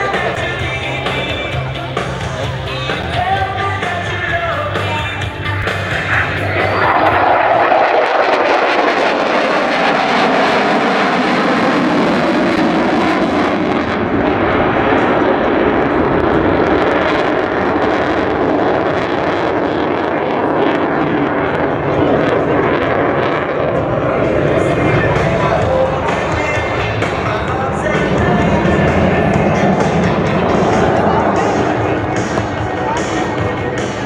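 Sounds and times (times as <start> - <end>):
fighter jet engine roar: 0.0 - 34.0.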